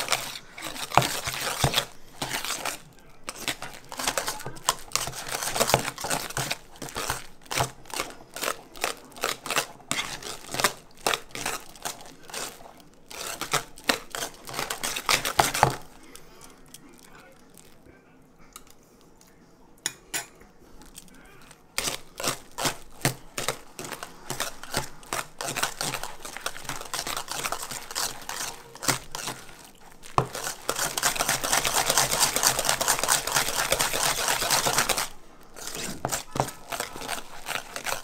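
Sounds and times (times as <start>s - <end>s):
wire whisk in metal bowl: 0.0s - 17.8s, 19.8s - 38.0s.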